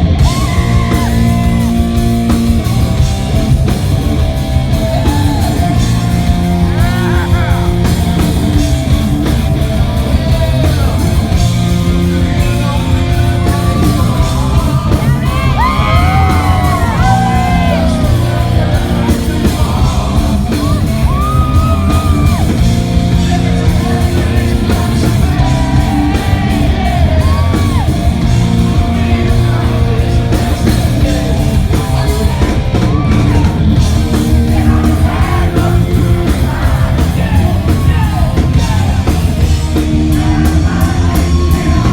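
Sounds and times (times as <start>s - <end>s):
rock band playing live: 0.0s - 41.9s
person singing and yelling: 4.7s - 8.6s, 9.8s - 41.9s.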